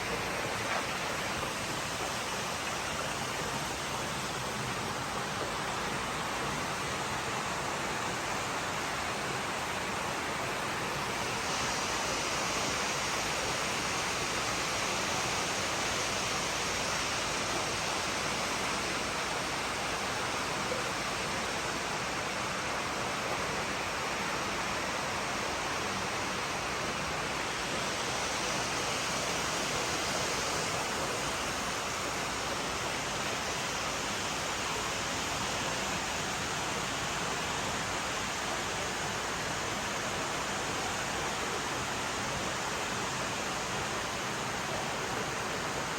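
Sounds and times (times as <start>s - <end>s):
running and splashing water: 0.0s - 45.9s.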